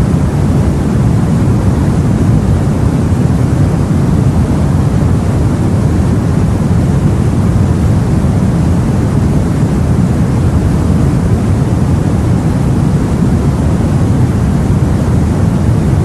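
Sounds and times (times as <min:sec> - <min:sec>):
deep rumble of sea and wind: 0:00.0 - 0:16.0.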